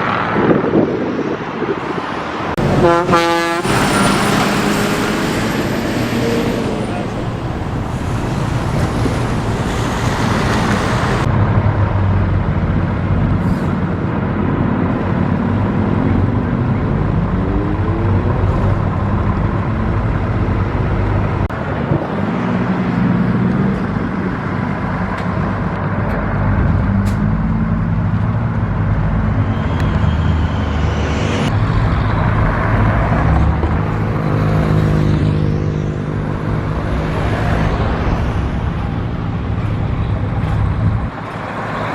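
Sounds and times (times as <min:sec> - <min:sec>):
vehicle engines accelerating: 0:00.0 - 0:41.9.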